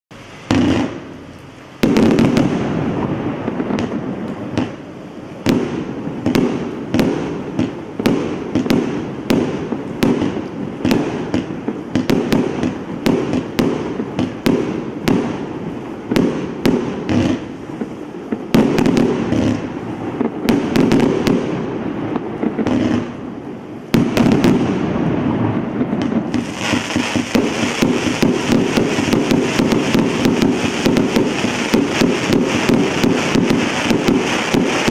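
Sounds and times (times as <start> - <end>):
firework hiss: 0.1 - 34.9
fireworks firing rapidly: 0.4 - 1.2, 1.8 - 34.9.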